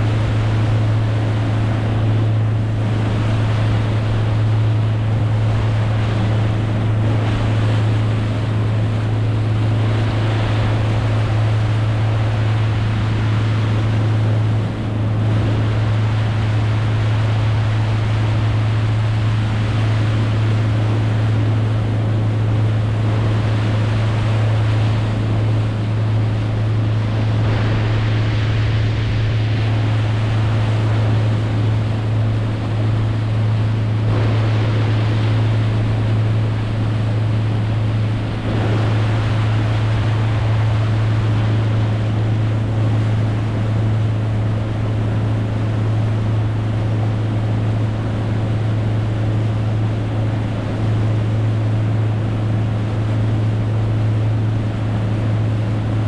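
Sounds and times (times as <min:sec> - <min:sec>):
boat motor droning: 0:00.0 - 0:56.0
rushing water: 0:00.0 - 0:56.0
wind noise: 0:00.0 - 0:56.0.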